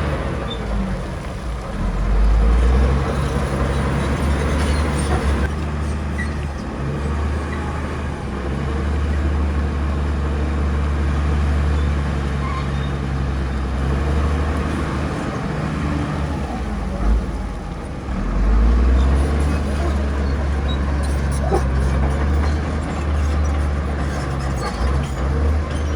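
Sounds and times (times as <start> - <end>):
heavy machinery diesel engines rumbling: 0.0 - 25.9.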